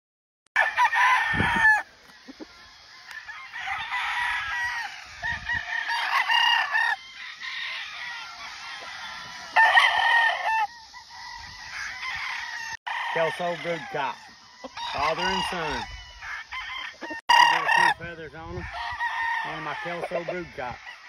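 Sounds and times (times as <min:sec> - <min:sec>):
roosters crowing: 0:00.6 - 0:21.0.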